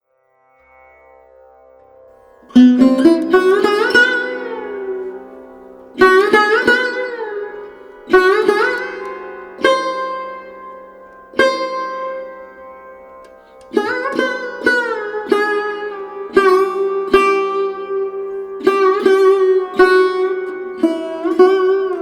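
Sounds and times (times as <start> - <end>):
plucked sitar-like strings: 0.2 - 22.0.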